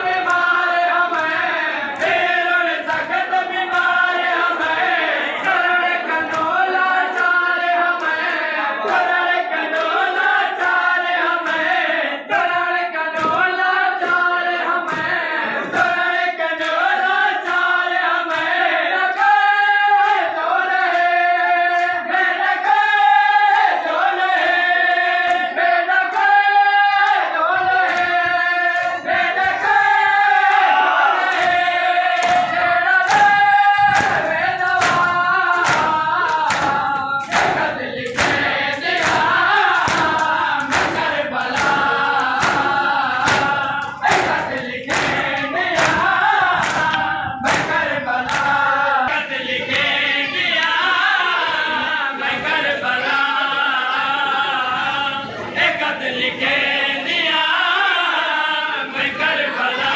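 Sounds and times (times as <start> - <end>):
men chanting a lament: 0.0 - 59.9
rhythmic chest-beating slaps: 0.0 - 59.9.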